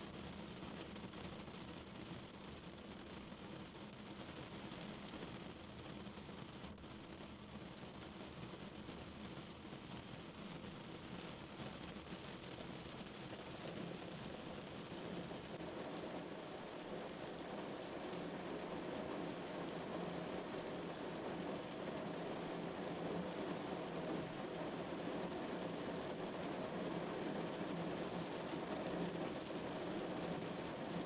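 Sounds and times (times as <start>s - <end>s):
rain falling on a car: 0.1s - 31.0s.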